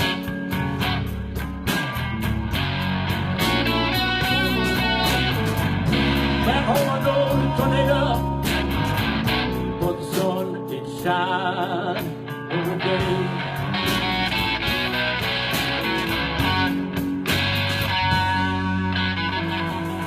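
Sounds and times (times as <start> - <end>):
blues band playing: 0.0 - 20.0
electric guitar lead with bent notes: 0.0 - 20.0.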